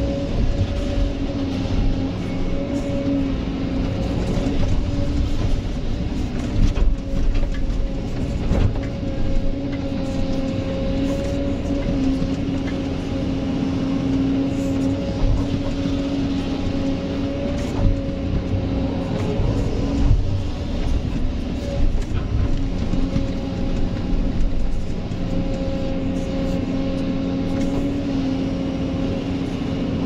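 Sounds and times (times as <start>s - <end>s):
excavator engine and hydraulics: 0.0s - 30.0s.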